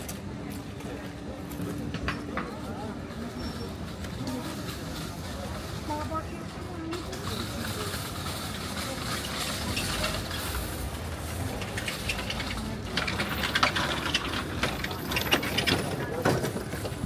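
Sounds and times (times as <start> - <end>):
people moving about: 0.0 - 17.0
traffic hum: 0.0 - 17.0.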